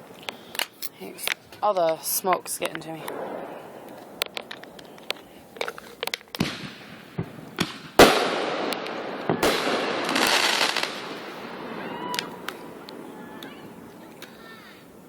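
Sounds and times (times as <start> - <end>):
fireworks pops and bangs: 0.0 - 14.5
fireworks crackling: 0.0 - 15.0.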